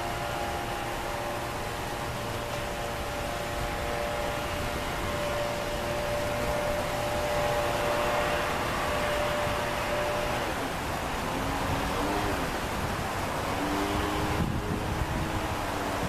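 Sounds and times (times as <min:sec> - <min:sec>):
humming tone: 0:00.0 - 0:16.0
steady hiss: 0:00.0 - 0:16.0.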